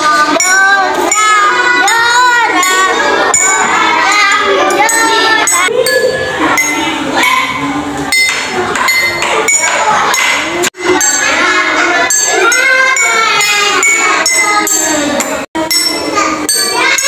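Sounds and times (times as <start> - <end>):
children's voices: 0.0 - 17.0.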